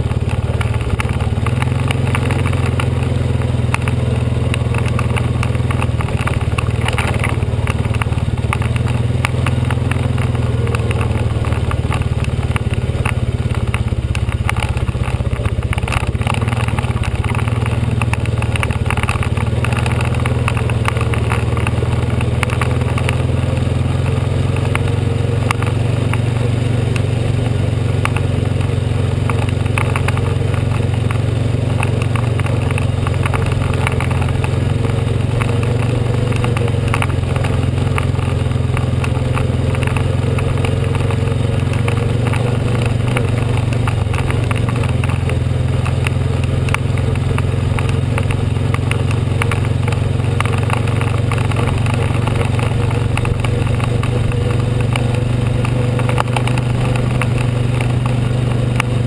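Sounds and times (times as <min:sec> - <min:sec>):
atv engine running: 0:00.0 - 0:59.0
small rattles and clicks: 0:00.0 - 0:59.0.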